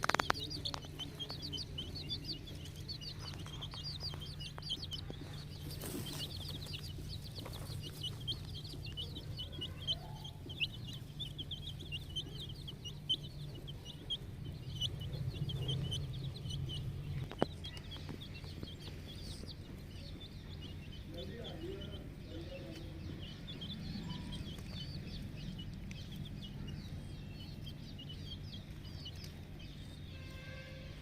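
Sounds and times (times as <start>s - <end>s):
chicks peeping: 0.0s - 31.0s
low hum: 0.0s - 31.0s.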